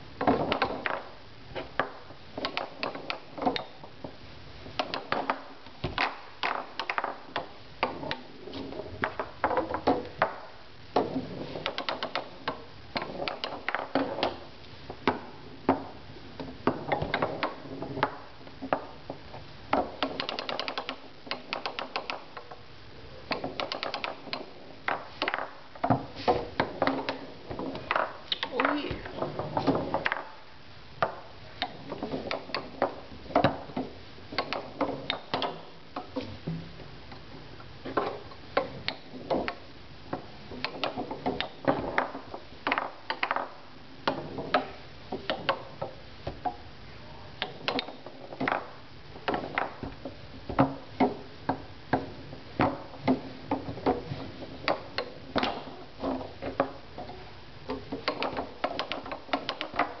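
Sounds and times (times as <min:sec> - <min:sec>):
foosball clicks and knocks: 0:00.2 - 0:22.6, 0:23.2 - 0:30.4, 0:31.0 - 0:37.2, 0:37.8 - 0:46.6, 0:47.4 - 1:00.0.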